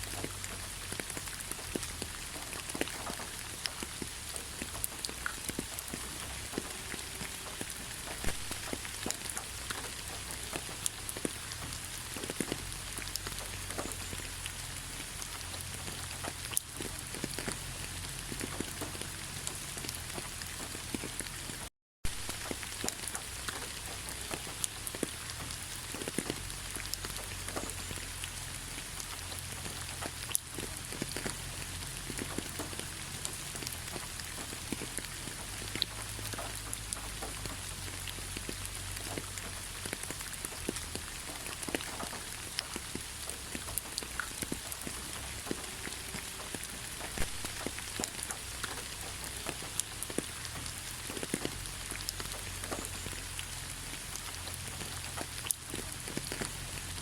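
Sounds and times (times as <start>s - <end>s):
rain drops ticking: 0.0s - 57.0s.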